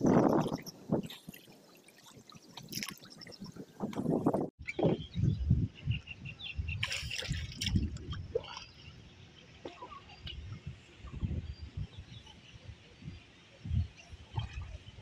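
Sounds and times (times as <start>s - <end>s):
water trickling and sloshing: 0.0s - 4.6s, 6.8s - 15.0s.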